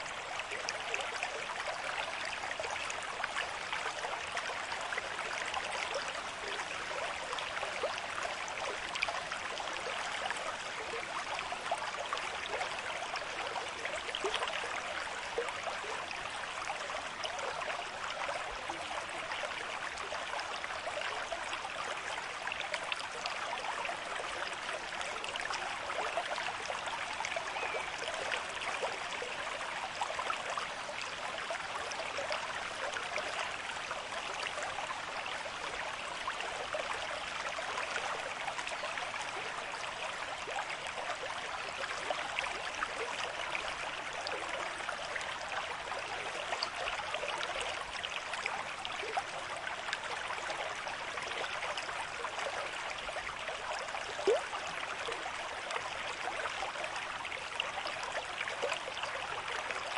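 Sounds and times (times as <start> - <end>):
stream running over stones: 0.0 - 59.9.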